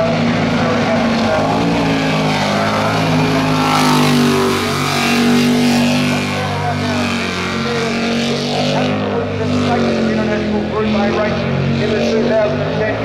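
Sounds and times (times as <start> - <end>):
jet boat engine revving: 0.0 - 13.0.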